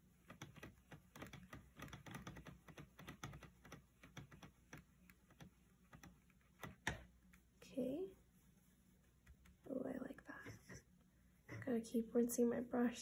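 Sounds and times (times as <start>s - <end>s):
paintbrush scrubbing watercolour paint: 0.0s - 10.9s.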